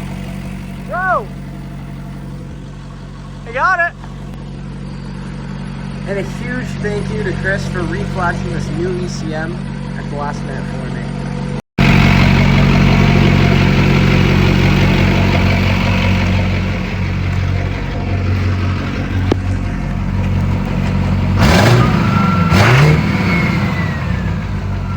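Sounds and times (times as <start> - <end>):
diesel engine idling: 0.0 - 24.9.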